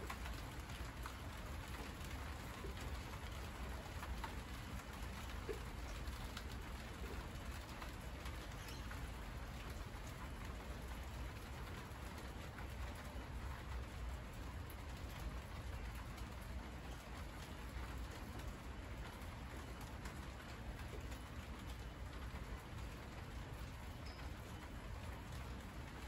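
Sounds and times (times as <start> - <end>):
rain pattering on leaves: 0.0 - 26.0.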